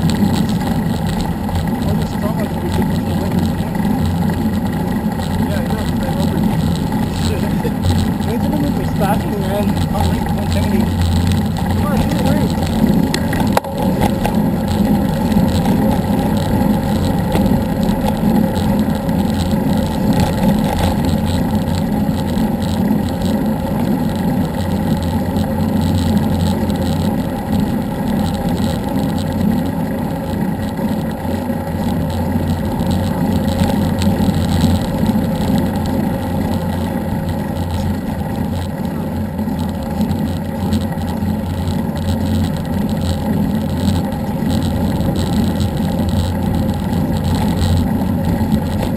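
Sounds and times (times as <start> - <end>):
road and wind noise: 0.0 - 48.9
vehicle engine hum: 0.0 - 48.9.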